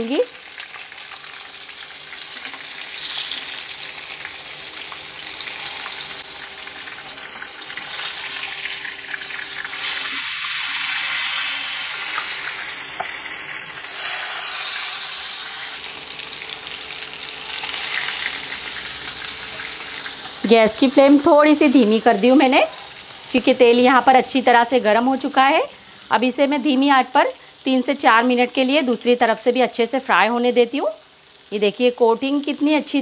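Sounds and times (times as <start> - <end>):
oil sizzling in a frying pan: 0.0 - 33.0.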